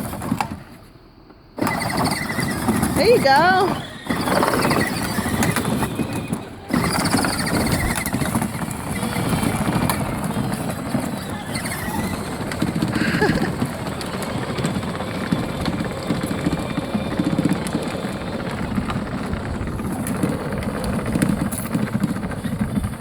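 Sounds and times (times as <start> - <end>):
toy truck electric whir: 1.6 - 23.0.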